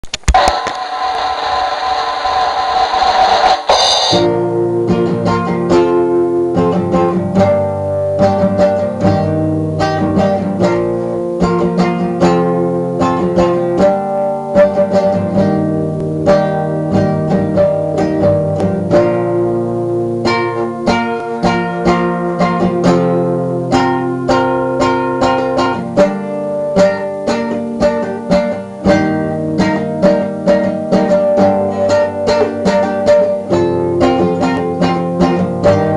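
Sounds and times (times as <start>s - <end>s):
noisy burst with steady tone: 0.0s - 35.9s
acoustic guitar picking: 3.7s - 35.9s.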